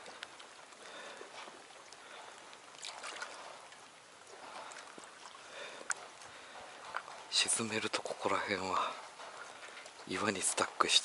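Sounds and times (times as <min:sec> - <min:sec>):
small waves lapping on stones: 0:00.0 - 0:11.0.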